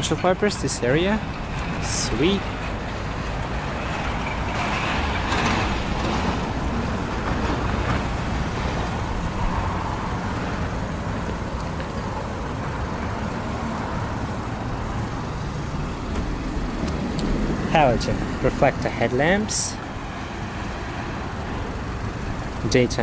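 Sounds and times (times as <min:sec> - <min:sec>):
motor vehicle rumble: 0:00.0 - 0:23.0.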